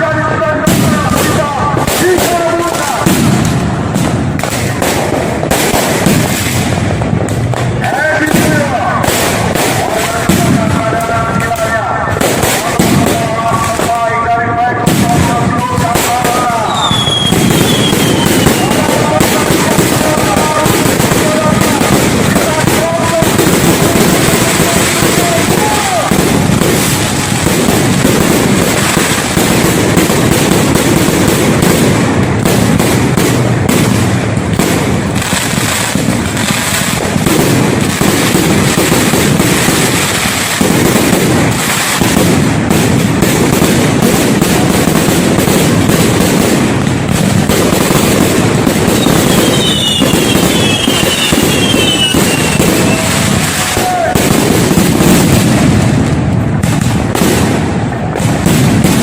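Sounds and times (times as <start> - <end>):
crowd voices: 0.0 - 59.0
fireworks bangs and crackling: 0.0 - 59.0.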